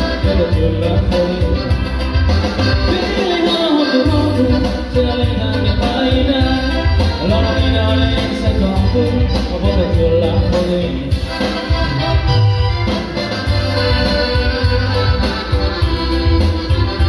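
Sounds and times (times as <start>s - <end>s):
electronic keyboard playing: 0.0s - 17.0s.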